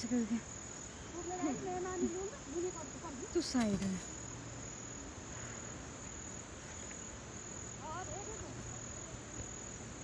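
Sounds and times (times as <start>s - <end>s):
insects trilling in grass: 0.0s - 10.0s.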